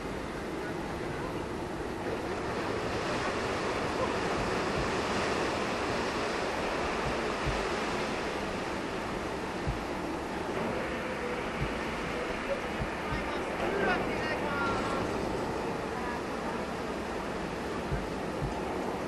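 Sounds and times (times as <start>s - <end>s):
churning water rushing: 0.0s - 19.0s
wind: 0.0s - 19.0s
wind buffets on microphone: 0.0s - 19.0s.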